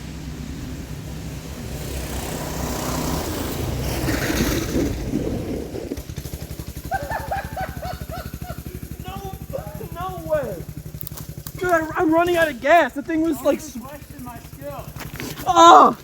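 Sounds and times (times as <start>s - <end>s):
small vehicle engine running: 0.0s - 16.0s.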